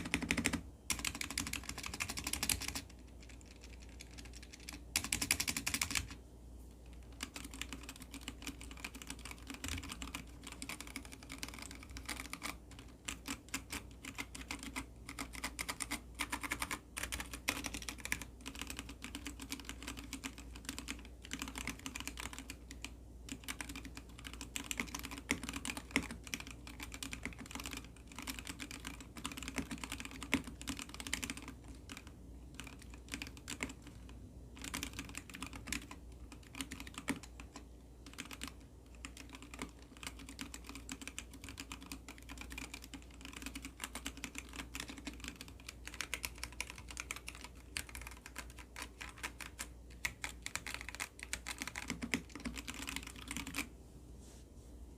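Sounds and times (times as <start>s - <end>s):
fast mechanical keyboard typing: 0.0s - 6.2s, 6.9s - 53.7s.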